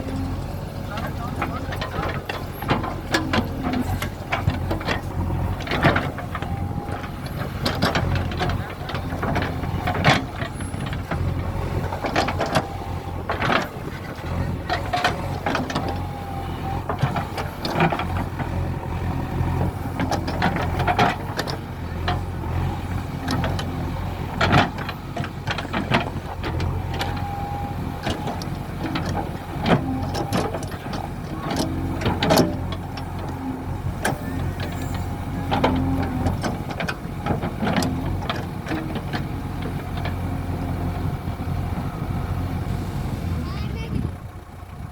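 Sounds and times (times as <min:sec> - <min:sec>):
backhoe bucket clanking: 0:00.0 - 0:44.9
diesel engine running: 0:00.0 - 0:44.9.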